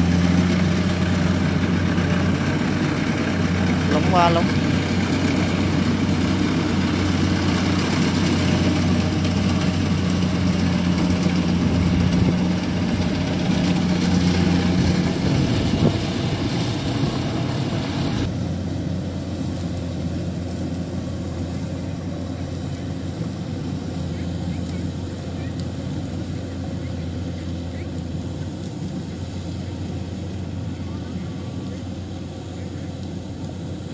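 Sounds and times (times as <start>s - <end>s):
combine harvester engine running: 0.0s - 33.9s.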